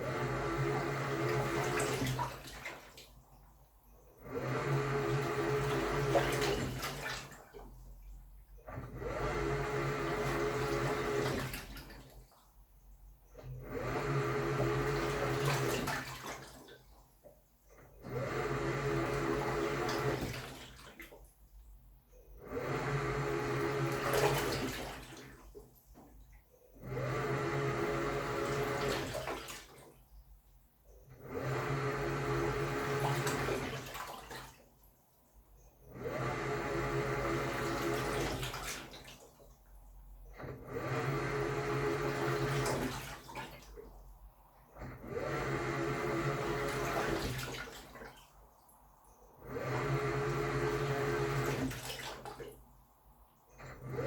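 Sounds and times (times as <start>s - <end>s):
washing machine motor hum: 0.0s - 54.0s
water sloshing: 0.6s - 3.7s, 4.9s - 21.8s, 23.5s - 30.6s, 32.5s - 35.4s, 36.9s - 40.3s, 41.7s - 54.0s.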